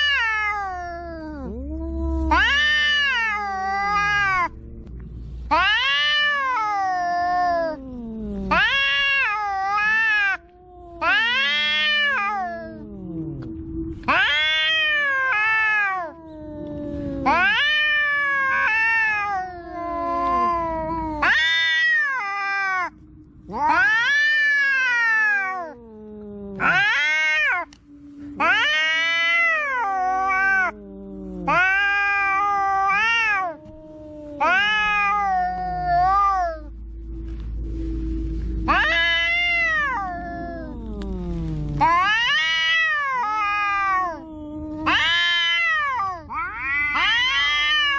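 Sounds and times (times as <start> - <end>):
cat moaning low: 0.0 - 47.9
cats yowling: 0.0 - 47.9.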